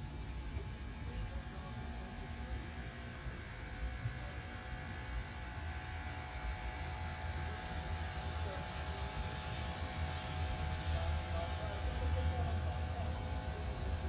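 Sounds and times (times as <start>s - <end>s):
thin steady tones: 0.0s - 14.0s.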